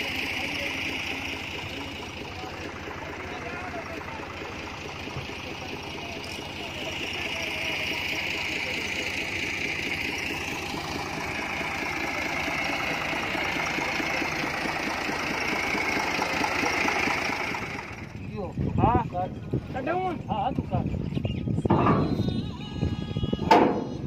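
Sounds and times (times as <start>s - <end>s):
tractor diesel engine idling: 0.0s - 24.0s.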